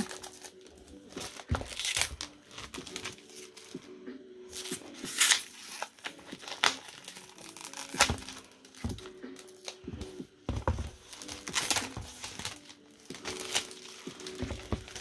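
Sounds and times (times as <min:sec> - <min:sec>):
plastic film crackling: 0:00.0 - 0:15.0.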